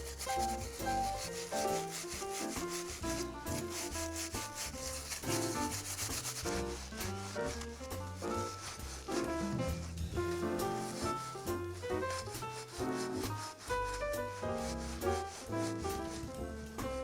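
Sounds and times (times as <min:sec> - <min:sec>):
scrubbing rust off iron pan: 0:00.0 - 0:16.4.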